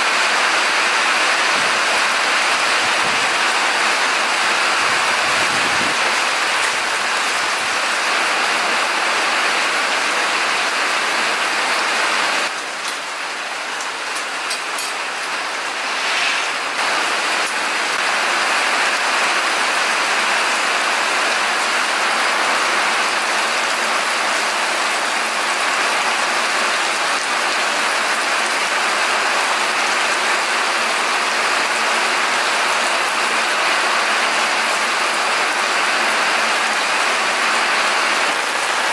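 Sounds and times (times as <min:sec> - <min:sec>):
rain pattering on surfaces: 0:00.1 - 0:16.0, 0:16.7 - 0:38.9.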